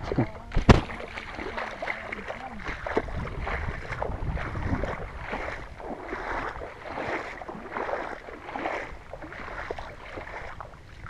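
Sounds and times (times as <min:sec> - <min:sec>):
footsteps splashing in puddle: 0:00.0 - 0:11.0.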